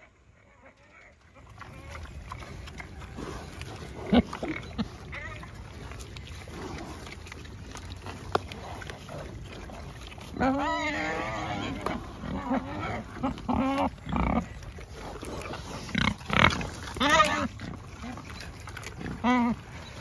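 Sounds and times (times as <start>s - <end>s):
pig grunts: 0.0s - 20.0s
pigs munching and crunching: 0.0s - 20.0s
pigs snuffling: 0.0s - 20.0s.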